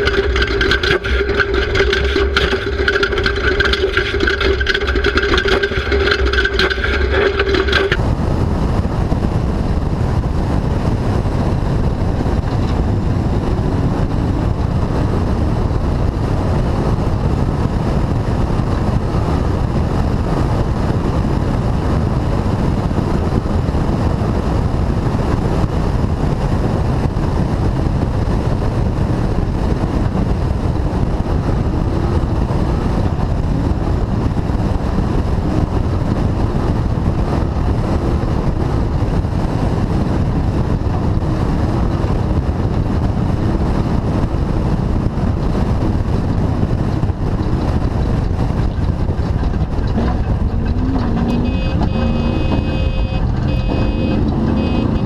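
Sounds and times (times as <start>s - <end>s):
race car engine at speed: 0.0s - 55.0s
wind on microphone: 0.0s - 55.0s.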